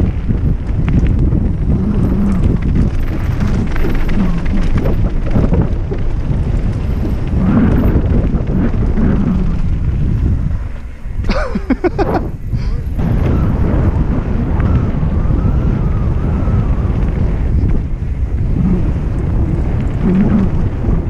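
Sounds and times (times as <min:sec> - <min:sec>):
bike rolling on dirt trail: 0:00.0 - 0:21.0
wind buffeting microphone: 0:00.0 - 0:21.0.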